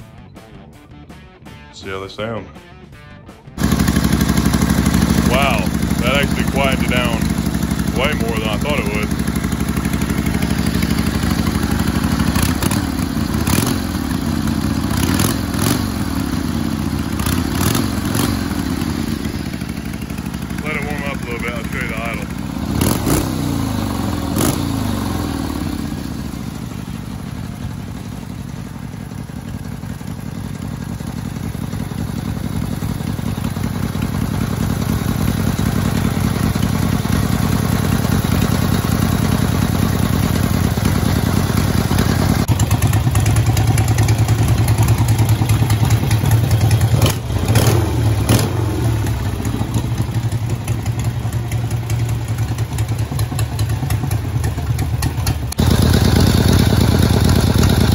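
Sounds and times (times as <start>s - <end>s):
motorcycle engine idling: 3.5s - 57.9s.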